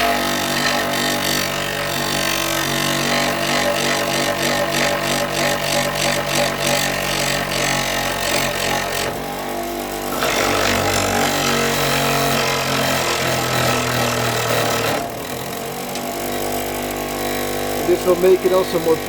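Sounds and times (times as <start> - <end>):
power tool grinding wood: 0.0 - 19.0.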